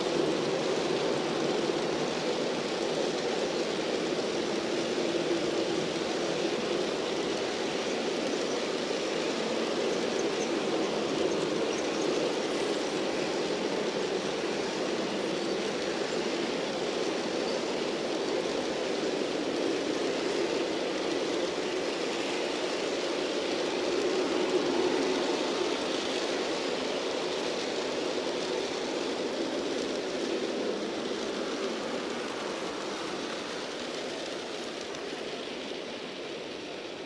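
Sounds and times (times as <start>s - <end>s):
model train wheels rumbling on rails: 0.0s - 37.0s.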